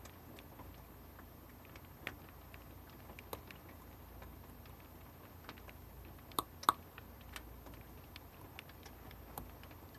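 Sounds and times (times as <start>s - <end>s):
faint steady hiss: 0.0s - 9.9s
rain tapping on hard surface: 0.0s - 9.9s.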